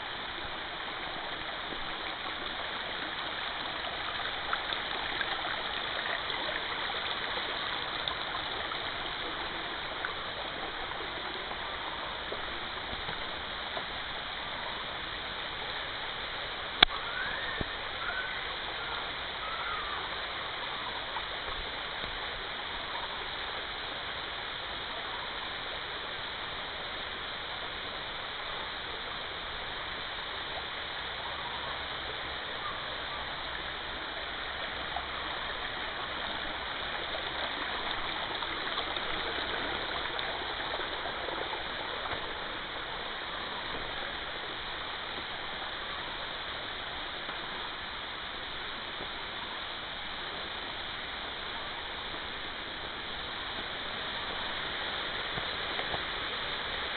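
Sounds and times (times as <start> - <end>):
faint high glides: 0.0 - 56.9
stream running over rocks: 0.0 - 56.9.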